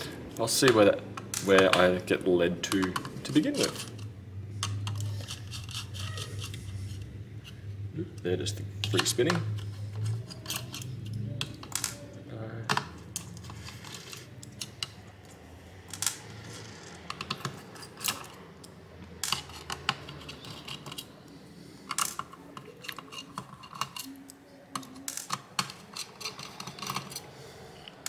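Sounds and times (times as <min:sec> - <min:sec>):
screwdriver clicking and scraping: 0:02.6 - 0:07.7, 0:08.8 - 0:11.8, 0:12.8 - 0:28.0.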